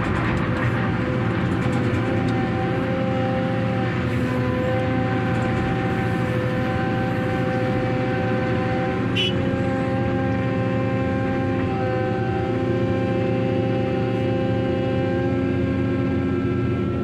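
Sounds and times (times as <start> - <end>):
crane machinery whine: 0.0 - 17.0.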